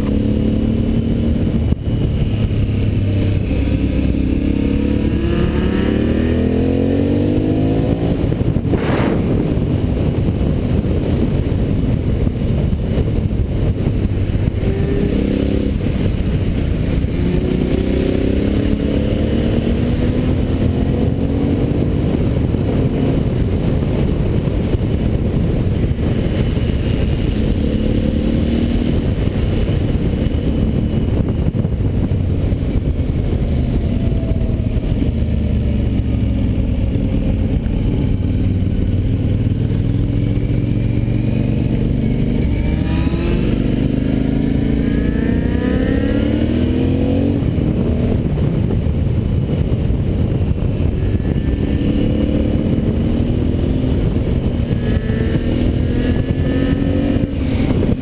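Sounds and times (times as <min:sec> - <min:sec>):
motorcycle engine accelerating: 0:00.0 - 0:58.0
wind rush on microphone: 0:00.0 - 0:58.0.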